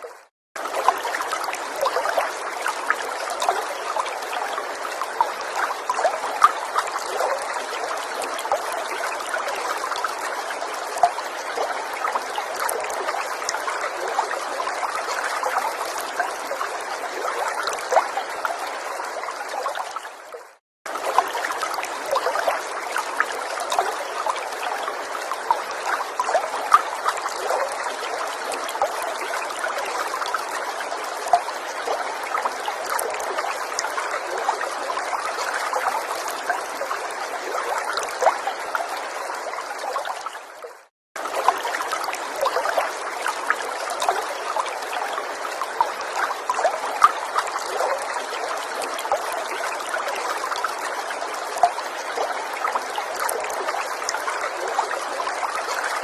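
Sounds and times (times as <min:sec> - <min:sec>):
small water splashes: 0:00.0 - 0:56.0
water stream trickling: 0:00.0 - 0:56.0.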